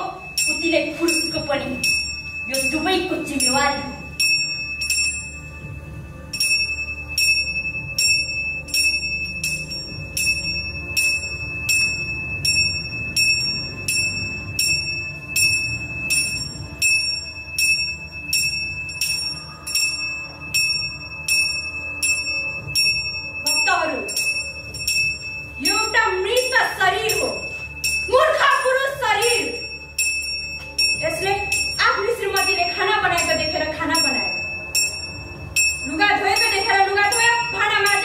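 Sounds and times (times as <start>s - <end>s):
small bell ringing: 0.0s - 38.0s.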